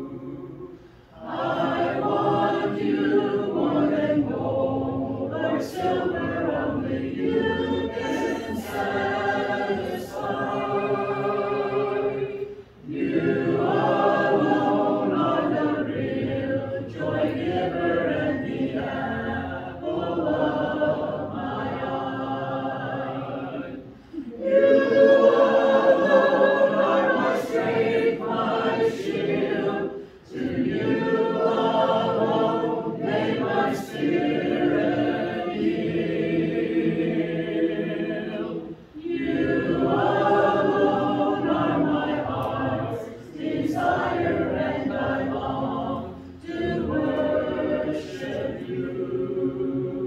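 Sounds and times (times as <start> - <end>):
congregation singing a hymn: 0.0 - 50.0.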